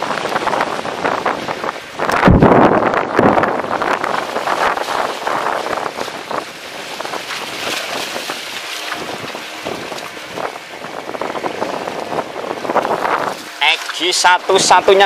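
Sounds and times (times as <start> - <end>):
sea washing against concrete: 0.0 - 15.0
wind buffeting microphone: 0.0 - 15.0.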